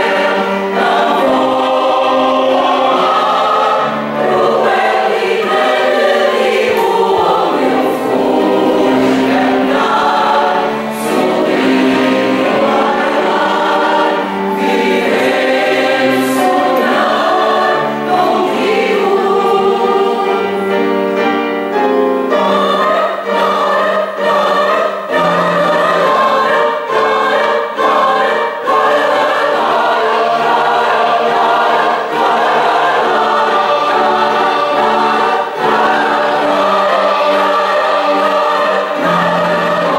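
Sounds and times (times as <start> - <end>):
choir singing chords: 0.0 - 39.9.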